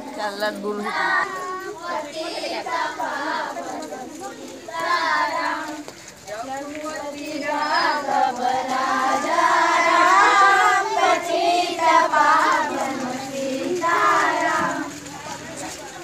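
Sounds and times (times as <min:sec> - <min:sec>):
children singing in unison: 0:00.8 - 0:05.9, 0:06.8 - 0:15.0.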